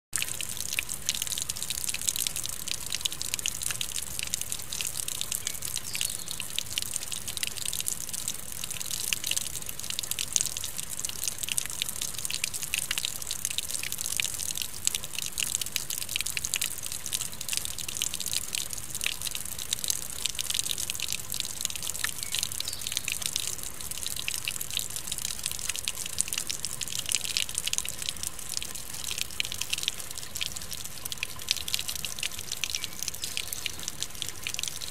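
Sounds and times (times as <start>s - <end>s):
water pouring and splashing on rocks: 0.1s - 34.9s
steady rain: 0.2s - 34.9s.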